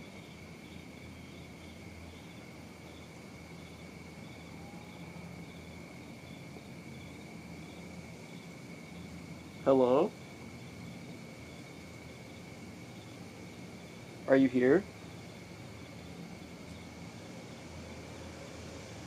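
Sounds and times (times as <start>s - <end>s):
crickets chirping: 0.0s - 19.0s
faint low hum: 0.0s - 19.0s.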